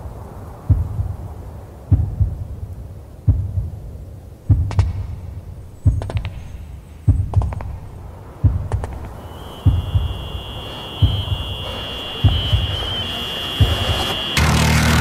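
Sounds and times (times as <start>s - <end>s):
deep heartbeat thumps: 0.7s - 2.6s, 3.2s - 14.4s.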